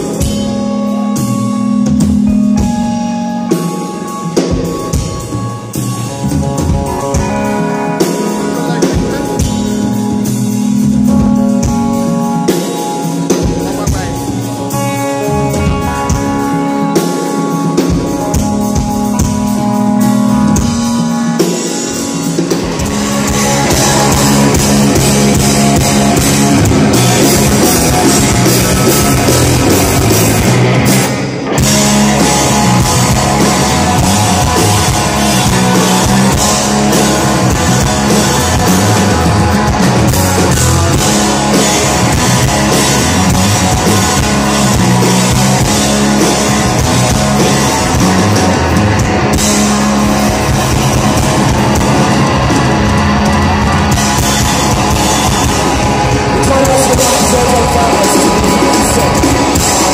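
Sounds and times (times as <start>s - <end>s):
electric guitar chords: 0.0s - 59.9s
live rock band playing: 0.0s - 59.9s.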